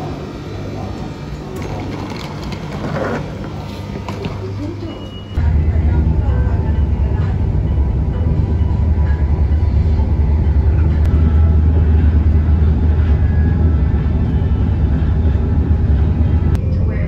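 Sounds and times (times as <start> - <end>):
train rumble inside carriage: 0.0 - 17.0.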